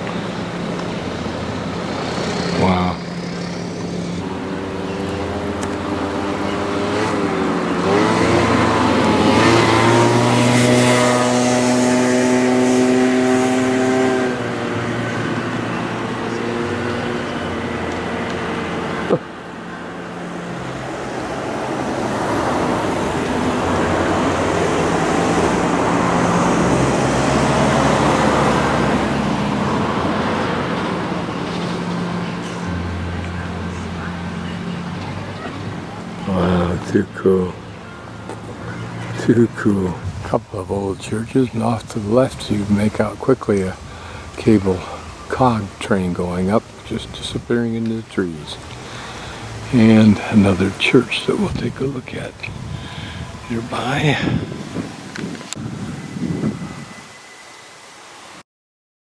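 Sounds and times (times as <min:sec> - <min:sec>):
engine humming: 0:00.0 - 0:58.3
road traffic noise: 0:00.0 - 0:58.4.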